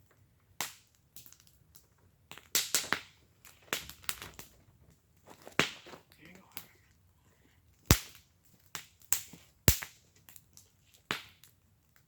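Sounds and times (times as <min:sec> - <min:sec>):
wood fire crackling: 0:00.0 - 0:12.0
sharp pops of fire: 0:00.4 - 0:06.8, 0:07.8 - 0:12.0.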